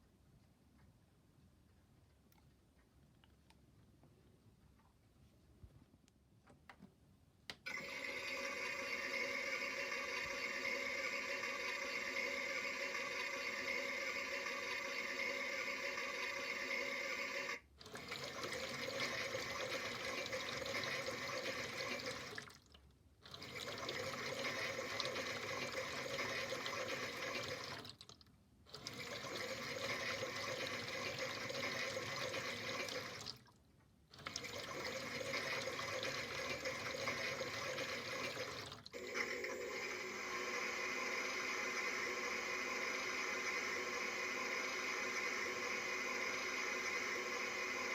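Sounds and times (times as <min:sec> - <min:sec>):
toy washing machine rushing water: 0:07.7 - 0:47.9.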